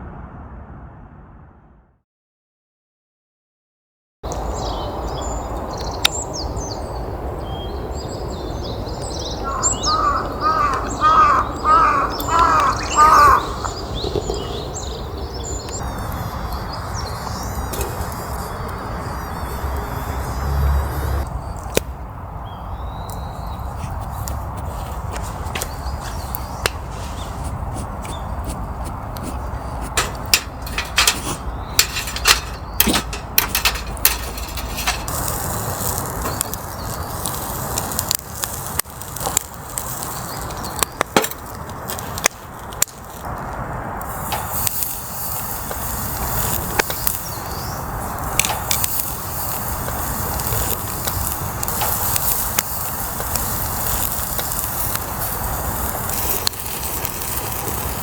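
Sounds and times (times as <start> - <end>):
campfire crackling and popping: 8.4 - 20.3, 21.2 - 58.0.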